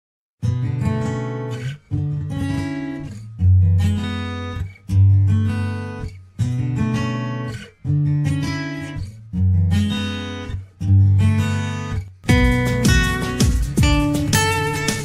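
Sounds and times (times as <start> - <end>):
strummed guitar chords: 0.4 - 15.0.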